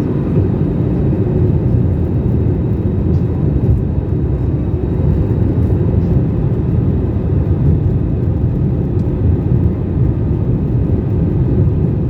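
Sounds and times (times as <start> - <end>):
airliner engine rumble: 0.0 - 12.0.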